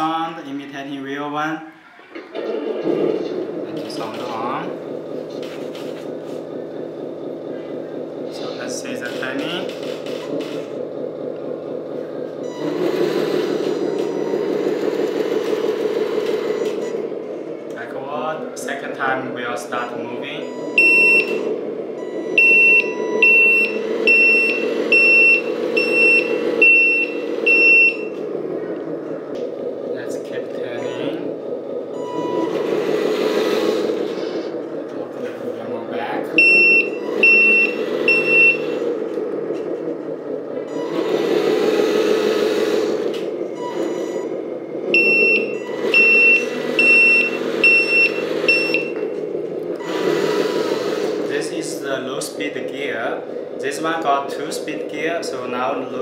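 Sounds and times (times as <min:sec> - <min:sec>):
imitation diesel engine sound: 0:00.0 - 0:56.0
high reversing beeps: 0:03.7 - 0:18.0, 0:18.6 - 0:28.4, 0:29.8 - 0:39.6, 0:40.3 - 0:56.0.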